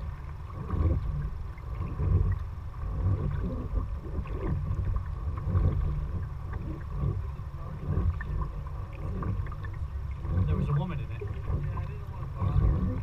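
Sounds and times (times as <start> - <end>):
low rumble: 0.0 - 13.0
paddle splashing water: 0.0 - 13.0.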